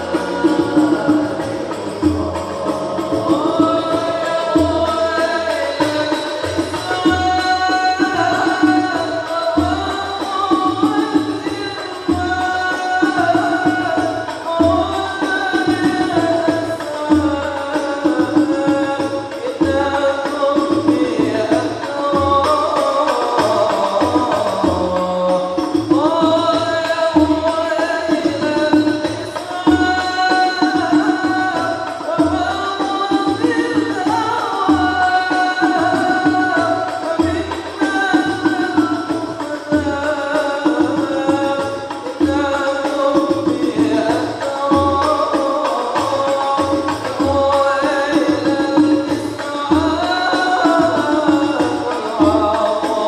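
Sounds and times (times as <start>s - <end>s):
frame drums beating: 0.0s - 53.0s
men singing together: 0.0s - 53.0s.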